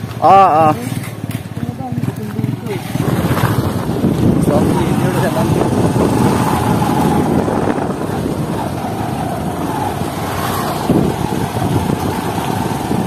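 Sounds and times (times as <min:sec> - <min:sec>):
motorcycle engine hum: 0:00.0 - 0:13.0
wind noise on microphone: 0:02.4 - 0:13.0.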